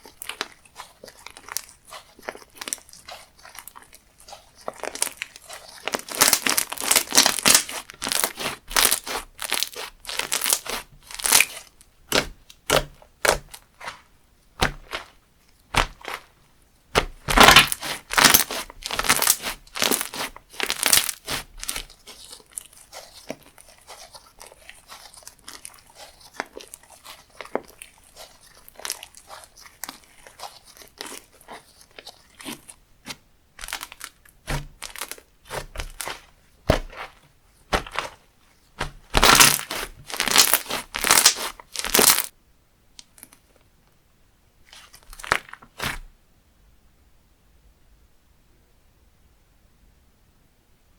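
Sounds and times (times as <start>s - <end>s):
slime crackling and popping: 0.0s - 38.2s, 38.8s - 42.3s, 44.8s - 46.0s.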